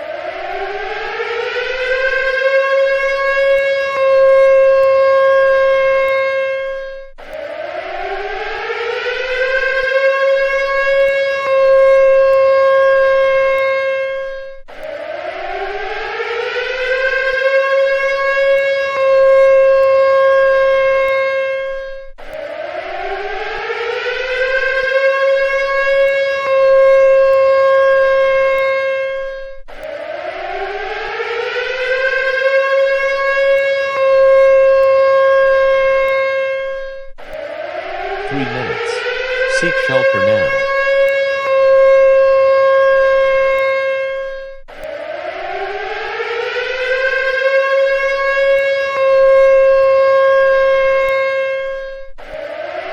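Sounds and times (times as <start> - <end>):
civil defense siren rising: 0.0 - 52.9.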